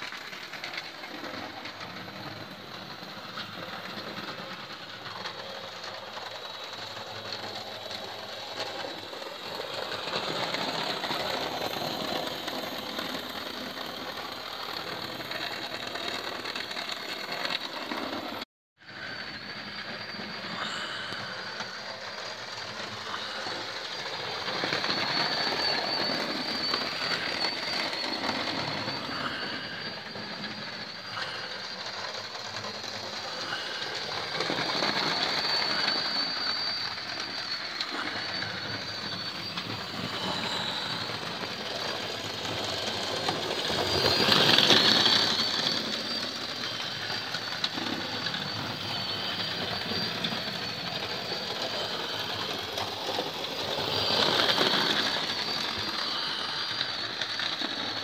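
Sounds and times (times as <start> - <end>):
model train motors whining: 0.0 - 58.0
steady high whine: 0.0 - 58.0.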